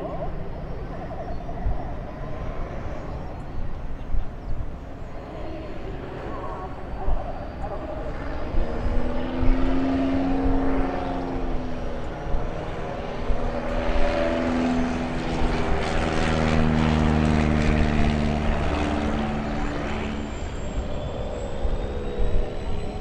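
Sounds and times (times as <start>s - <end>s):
propeller plane flying overhead: 0.0s - 23.0s.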